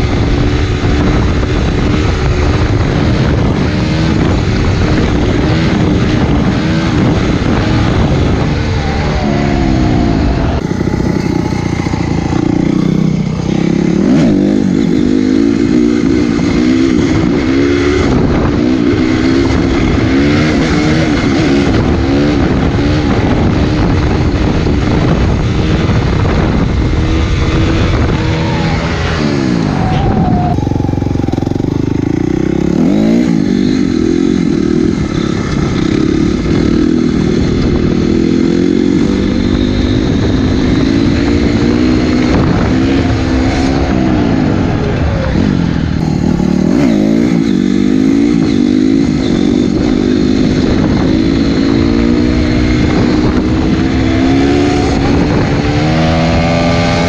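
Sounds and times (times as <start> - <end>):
motorcycle engine revving hard: 0.0 - 57.0.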